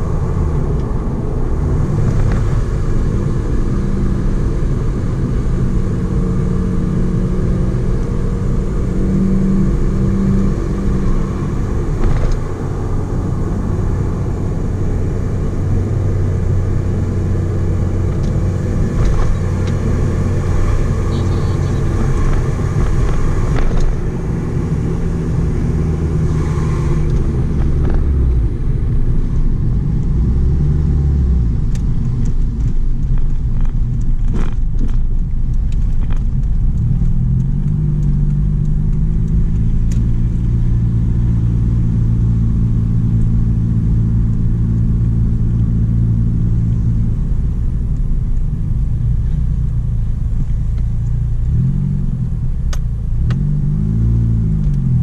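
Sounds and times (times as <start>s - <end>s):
car engine running at low revs: 0.0s - 55.0s.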